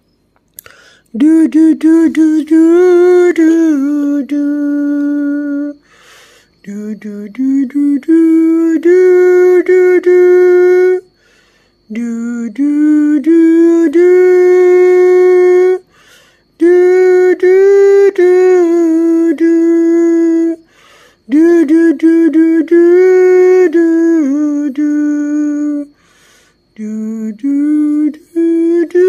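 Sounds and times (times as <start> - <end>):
person humming a lullaby: 0.6 - 29.0.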